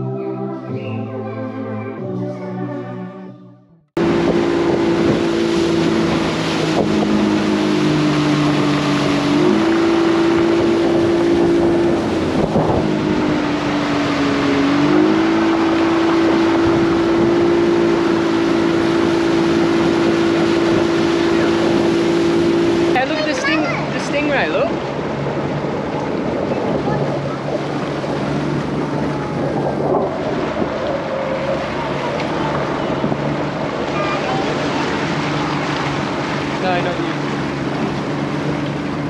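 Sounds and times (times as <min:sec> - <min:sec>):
outboard motor running: 0:04.0 - 0:39.0
wind rushing on microphone: 0:04.0 - 0:39.0.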